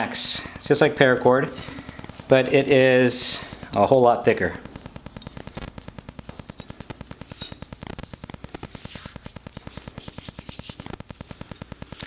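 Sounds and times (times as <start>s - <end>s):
rapid mechanical clicks: 0.0s - 12.0s.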